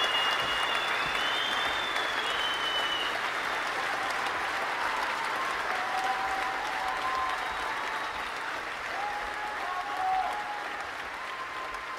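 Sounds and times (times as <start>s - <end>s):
audience applauding: 0.0s - 11.9s
drawn-out cheers: 0.0s - 11.9s.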